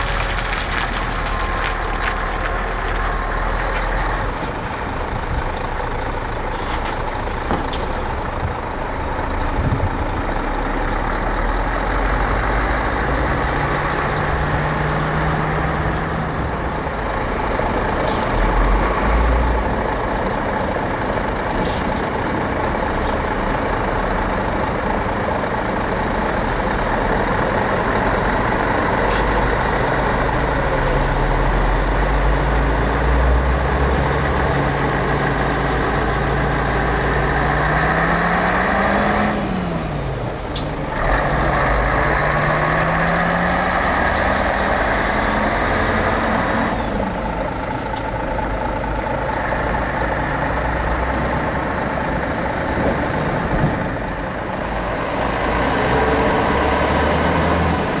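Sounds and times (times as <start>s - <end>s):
truck diesel engines running: 0.0s - 58.0s.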